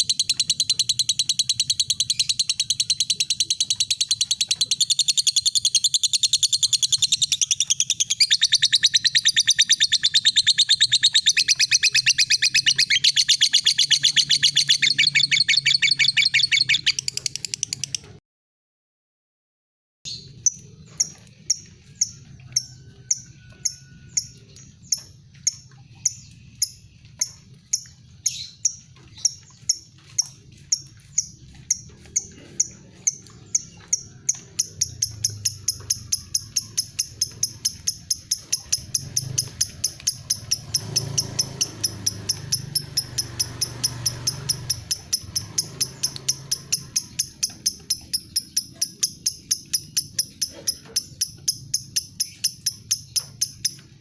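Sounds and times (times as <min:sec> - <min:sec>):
bird ticking call: 0:00.0 - 0:18.2, 0:20.1 - 0:54.0.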